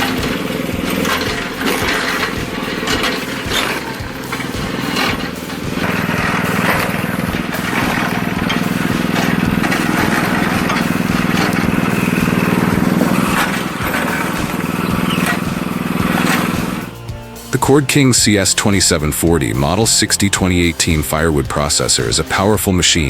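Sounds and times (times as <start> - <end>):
wood-splitting machine engine running: 0.0 - 22.7.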